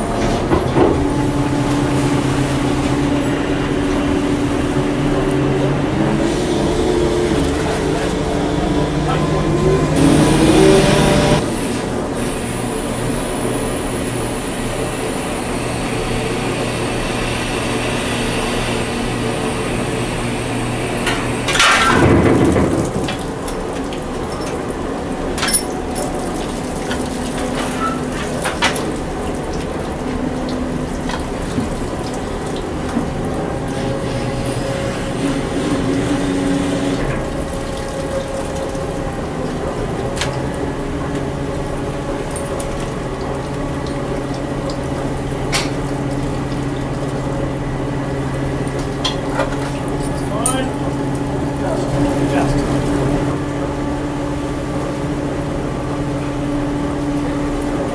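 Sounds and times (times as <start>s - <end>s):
engine hum: 0.0s - 57.9s
sea wash: 0.0s - 57.9s.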